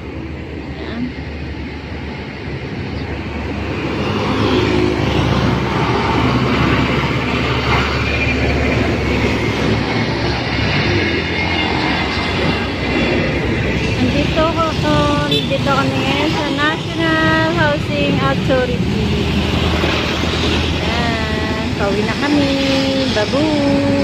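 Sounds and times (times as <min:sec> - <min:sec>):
truck rumbling past: 0:00.0 - 0:24.0.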